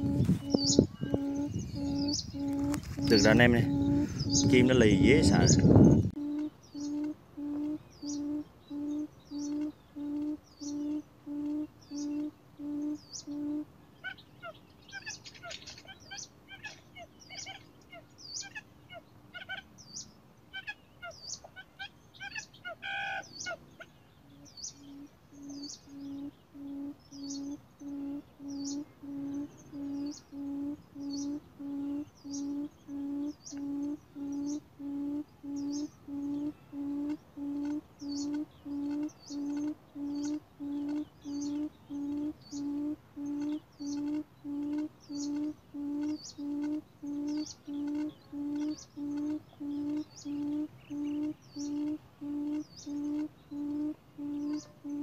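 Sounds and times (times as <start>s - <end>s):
low hooting bird call: 0.0s - 55.0s
small birds chirping: 0.0s - 55.0s.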